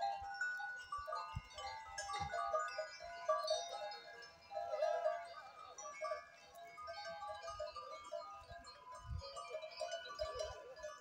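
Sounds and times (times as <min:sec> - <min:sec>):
animal neck bells clinking: 0:00.0 - 0:11.0.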